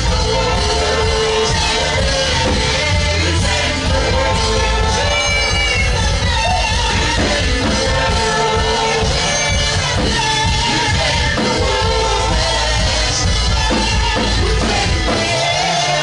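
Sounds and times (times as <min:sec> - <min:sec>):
band accompaniment with strong bass: 0:00.0 - 0:16.0
people singing worship music: 0:00.0 - 0:16.0.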